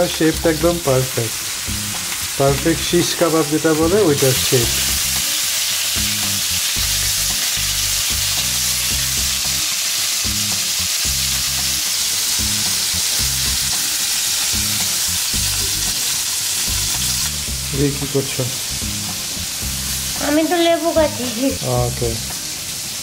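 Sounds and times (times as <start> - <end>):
kebabs sizzling in hot oil: 0.0 - 23.0.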